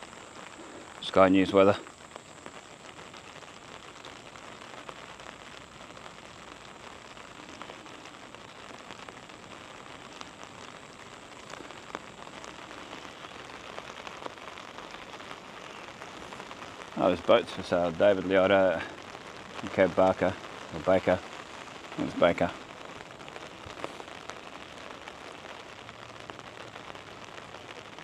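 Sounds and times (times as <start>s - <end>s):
raindrops pattering nearby: 0.0s - 28.0s
steady rain hiss: 0.0s - 28.0s.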